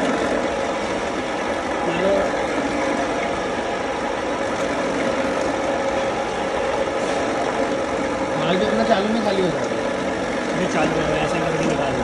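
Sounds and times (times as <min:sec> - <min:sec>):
bowl chopper motor running: 0:00.0 - 0:12.0.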